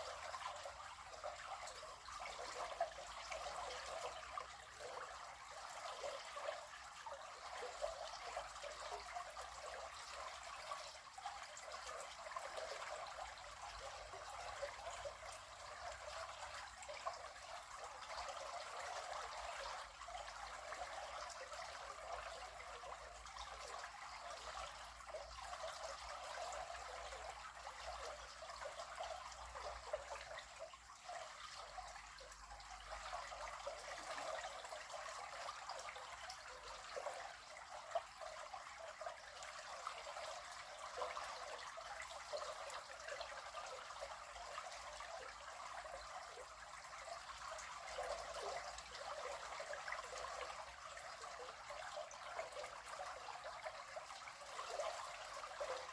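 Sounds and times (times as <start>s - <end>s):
river water flowing and burbling: 0.0s - 55.9s.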